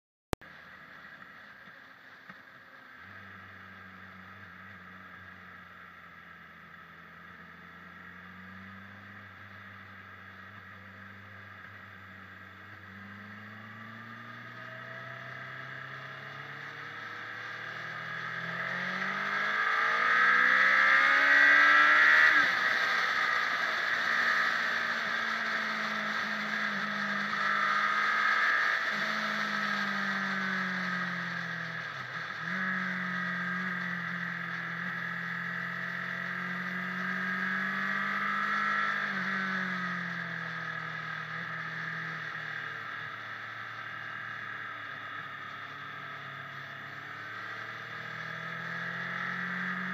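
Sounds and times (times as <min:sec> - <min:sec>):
motorcycle engine running: 0:00.4 - 0:49.9.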